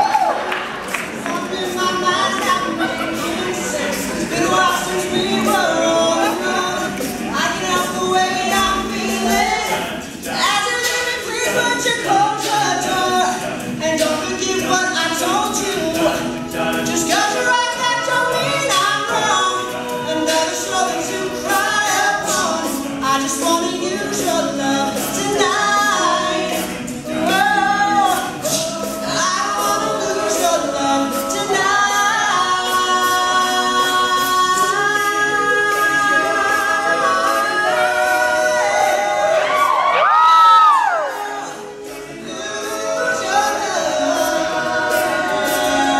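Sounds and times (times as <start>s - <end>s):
male a cappella group singing: 0.8s - 45.9s.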